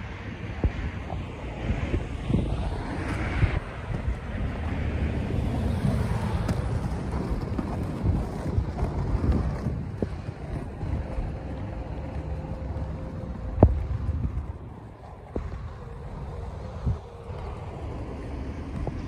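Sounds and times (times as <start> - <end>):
car traffic passing: 0.0 - 19.0
wind buffeting microphone: 0.0 - 19.0.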